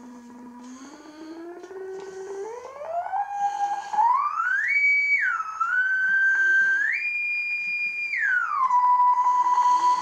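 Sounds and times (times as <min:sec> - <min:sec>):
sine test tone sweeping pitch: 0:00.0 - 0:10.0.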